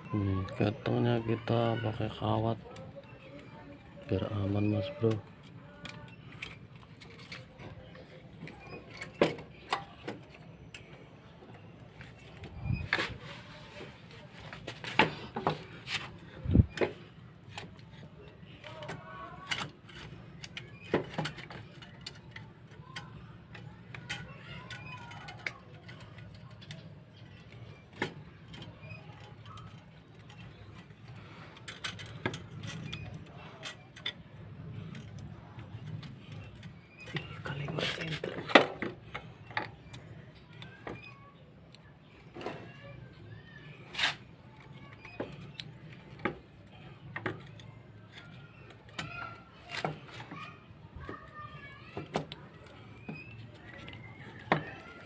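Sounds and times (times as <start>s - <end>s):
tools and metal parts clicking: 1.7s - 13.4s, 14.3s - 55.0s.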